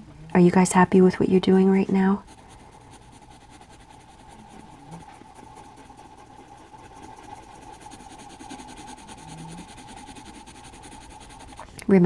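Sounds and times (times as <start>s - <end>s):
faint steady hum: 0.0s - 12.0s
pencil scratching on paper: 1.4s - 11.7s.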